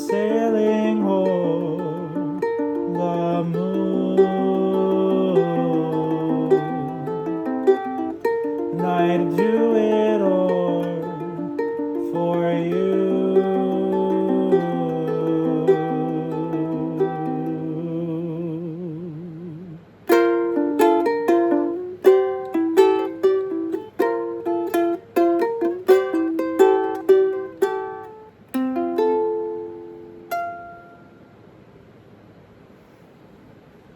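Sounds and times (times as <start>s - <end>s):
fingerpicked string instrument melody: 0.0s - 31.6s.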